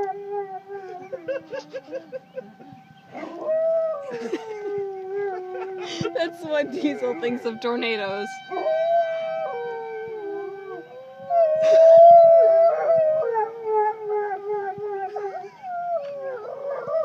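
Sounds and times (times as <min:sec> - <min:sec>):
dogs howling: 0:00.0 - 0:17.0
tornado siren steady tone: 0:00.0 - 0:17.0.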